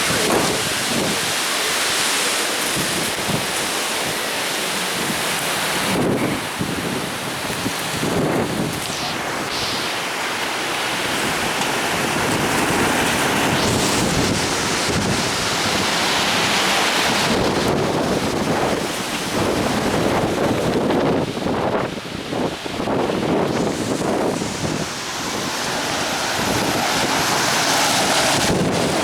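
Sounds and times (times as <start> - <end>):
wind gusting on microphone: 0.0 - 1.4, 5.0 - 29.0.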